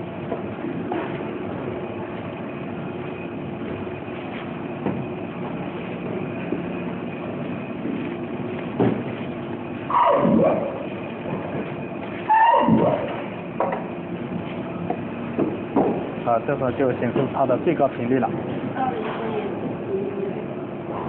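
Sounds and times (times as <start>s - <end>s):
electric motor hum and whine: 0.0s - 21.0s.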